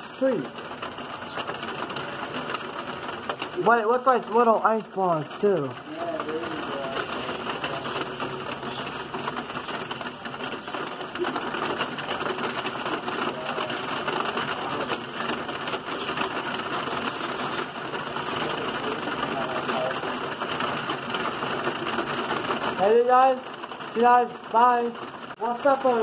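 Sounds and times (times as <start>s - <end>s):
rain and hail on pavement: 0.0s - 26.0s.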